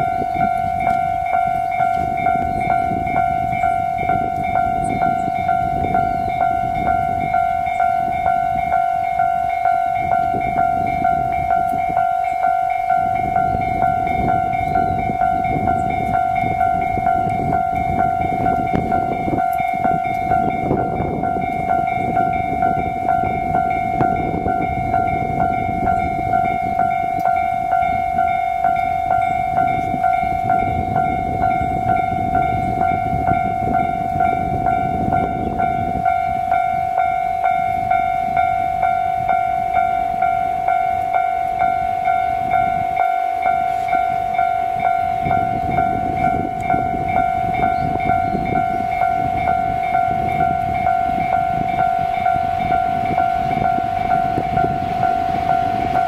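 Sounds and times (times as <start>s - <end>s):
railway warning signal pulsing tone: 0.0s - 56.0s.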